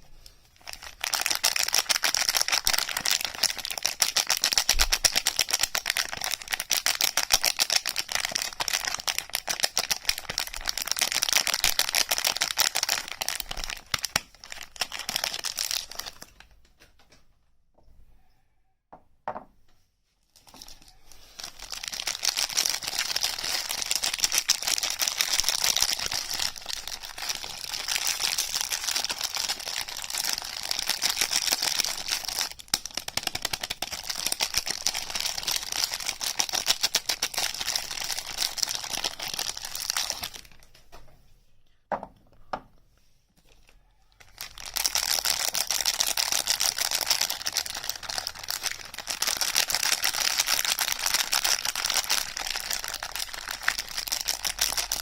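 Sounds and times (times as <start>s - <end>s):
packaging crinkling and tearing: 0.6s - 16.5s, 20.4s - 40.8s, 43.5s - 55.0s.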